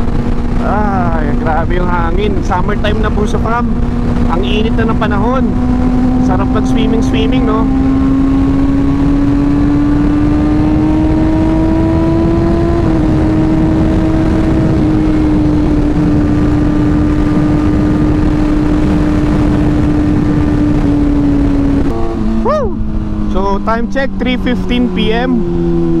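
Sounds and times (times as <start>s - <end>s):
motorcycle engine cruising: 0.0s - 26.0s
wind rush on microphone: 0.0s - 26.0s.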